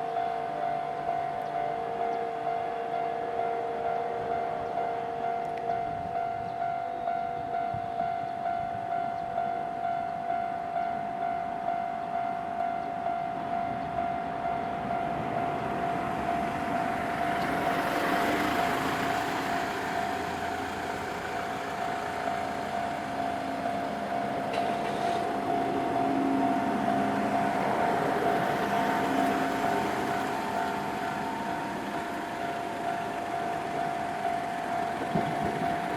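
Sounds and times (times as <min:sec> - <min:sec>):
train rumble: 0:00.0 - 0:35.9.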